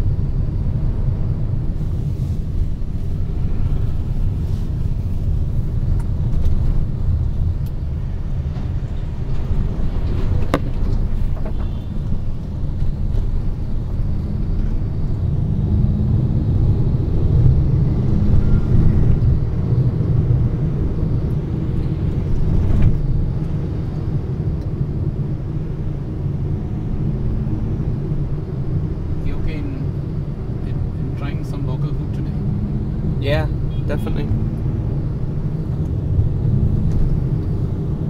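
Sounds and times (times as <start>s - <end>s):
road vehicle rumbling: 0.0s - 38.0s.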